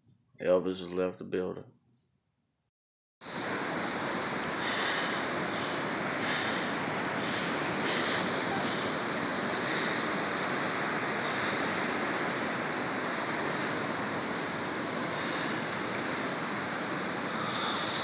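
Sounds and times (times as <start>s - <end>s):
wind: 0.0s - 18.0s
waves breaking on a beach: 3.2s - 18.0s.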